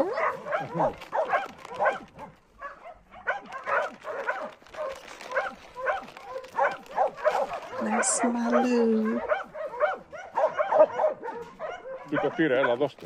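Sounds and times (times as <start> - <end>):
dogs barking and yapping: 0.0 - 13.0.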